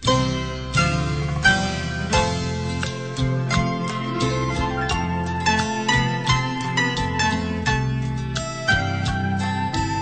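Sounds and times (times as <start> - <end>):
steady low bass: 0.0 - 9.6
plucked-string notes: 0.0 - 10.0.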